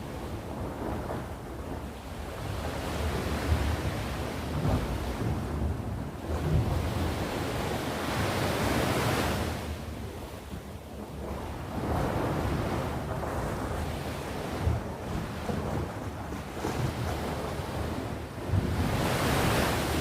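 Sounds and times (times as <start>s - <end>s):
low wind rumble: 0.0s - 20.0s
sea waves breaking on shore: 0.0s - 20.0s.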